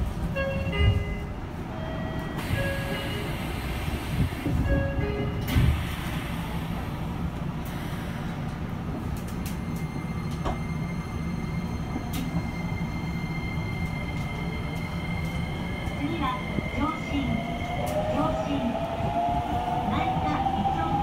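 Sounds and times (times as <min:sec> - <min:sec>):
subway car hum: 0:00.0 - 0:21.0.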